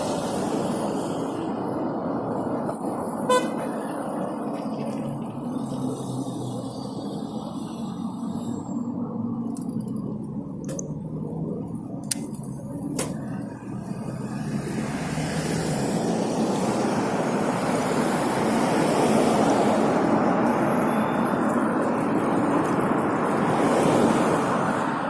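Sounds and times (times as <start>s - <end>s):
rushing road and wind noise: 0.0s - 25.0s
vehicle engine rumble: 0.0s - 25.0s.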